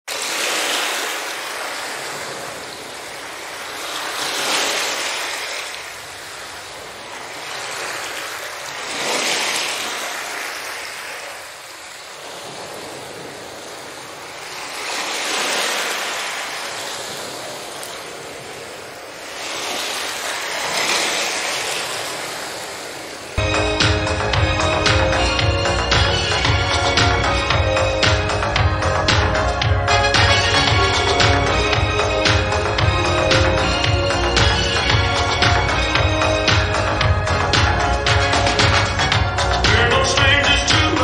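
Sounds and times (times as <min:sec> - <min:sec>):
ocean surf washing in: 0:00.1 - 0:41.0.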